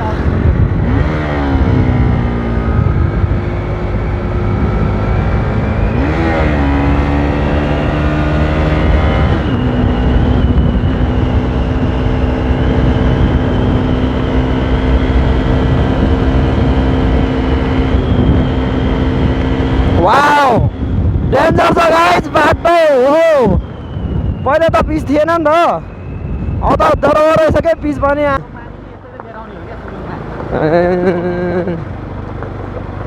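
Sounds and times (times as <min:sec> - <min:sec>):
motorcycle engine running: 0:00.0 - 0:24.5, 0:27.6 - 0:33.0
wind rumble on microphone: 0:00.0 - 0:33.0.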